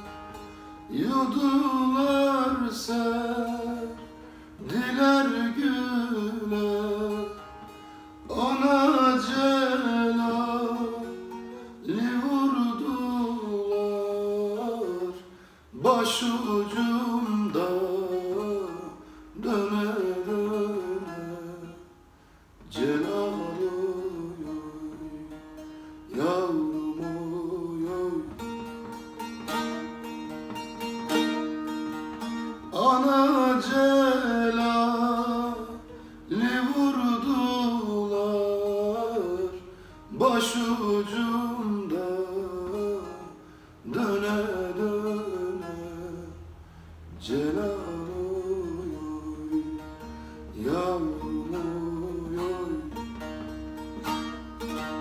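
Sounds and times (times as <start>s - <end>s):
plucked long-necked lute melody: 0.0s - 46.6s, 47.2s - 55.0s.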